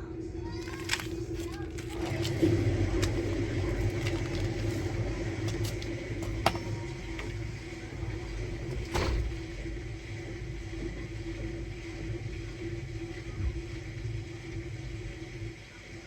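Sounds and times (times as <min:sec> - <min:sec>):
washing machine rumbling: 0:00.0 - 0:16.0.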